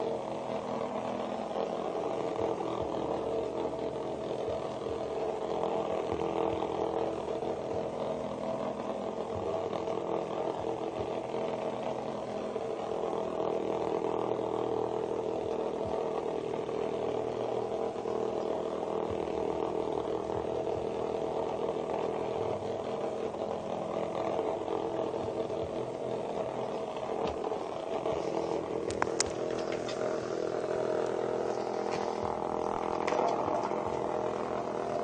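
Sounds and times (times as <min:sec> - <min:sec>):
vibrating bug toys buzzing: 0:00.0 - 0:35.0.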